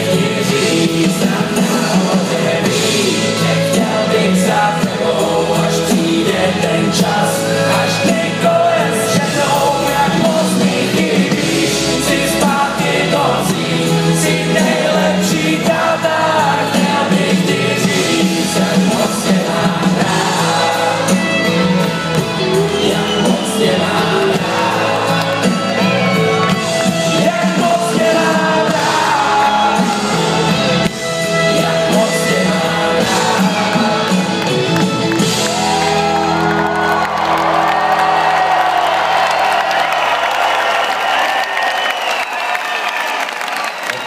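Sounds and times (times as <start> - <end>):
person singing: 0.0 - 40.0
loud live band music: 0.0 - 44.0.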